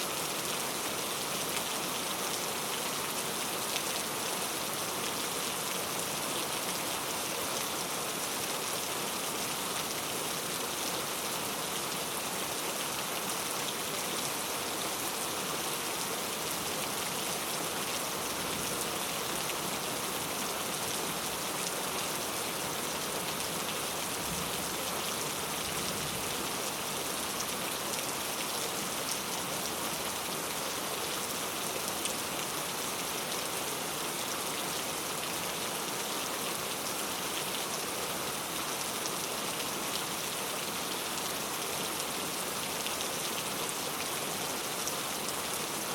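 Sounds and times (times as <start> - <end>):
heavy rain on leaves: 0.0 - 45.9.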